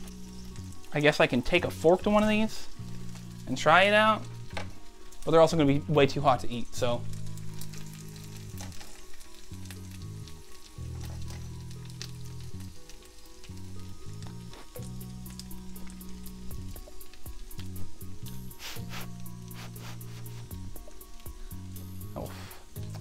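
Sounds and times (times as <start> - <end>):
potatoes sizzling in a pan: 0.0 - 23.0.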